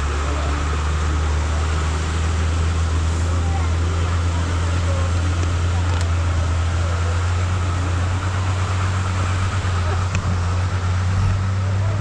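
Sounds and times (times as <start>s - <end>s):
truck engine running steadily: 0.0s - 12.0s.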